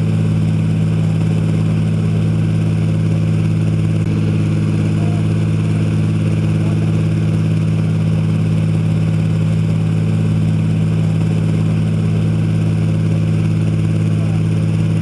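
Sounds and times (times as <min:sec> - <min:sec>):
aero engine running steadily: 0:00.0 - 0:15.0.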